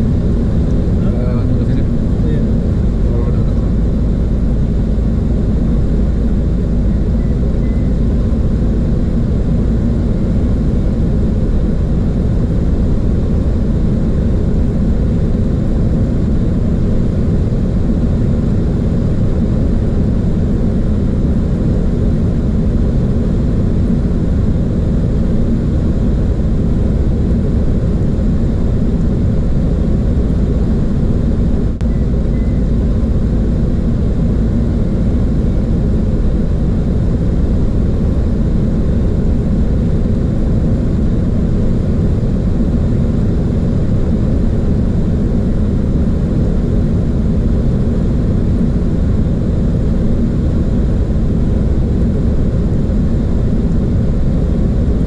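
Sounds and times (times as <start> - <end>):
airliner cockpit airflow and engines: 0.0 - 55.0.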